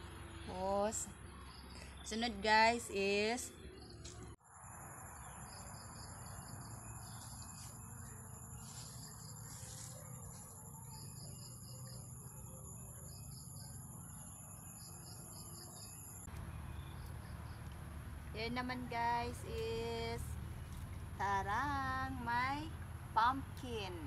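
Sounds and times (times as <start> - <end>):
insects trilling drone: 4.4 - 24.0.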